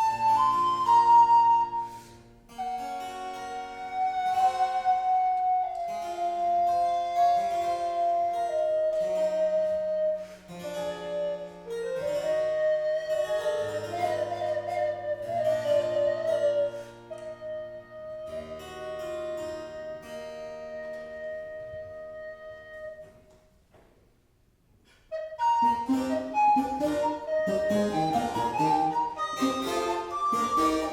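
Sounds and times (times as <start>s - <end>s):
recorder melody: 0.0s - 23.2s, 25.1s - 30.9s.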